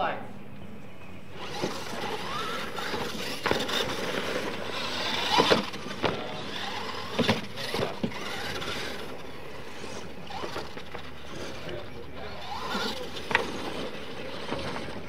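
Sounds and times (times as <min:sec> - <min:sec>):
rc truck motors whining: 0:01.0 - 0:15.0
trucks knocking and clattering on landing: 0:01.4 - 0:15.0.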